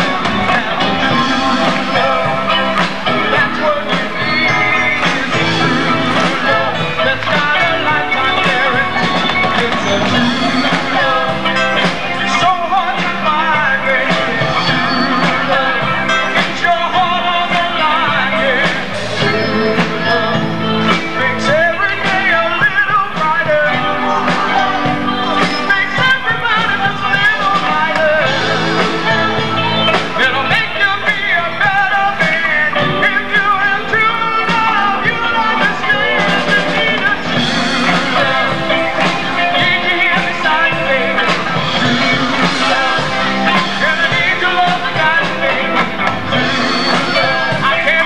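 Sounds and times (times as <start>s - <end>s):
drum kit: 0.0s - 48.0s
electric guitar: 0.0s - 48.0s
keyboards: 0.0s - 48.0s
lead singer singing: 0.0s - 48.0s.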